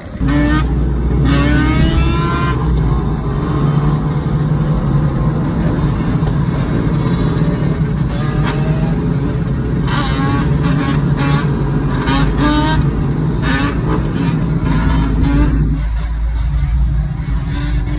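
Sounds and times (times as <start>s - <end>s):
car driving drone inside cabin: 0.0s - 17.9s.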